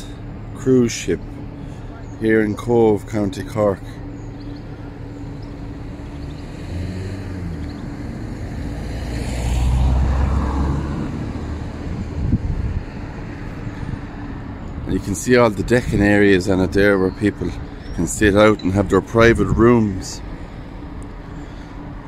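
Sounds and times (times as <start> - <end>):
steady low hum: 0.0 - 9.2, 10.8 - 22.0
road vehicle passing: 0.0 - 22.0.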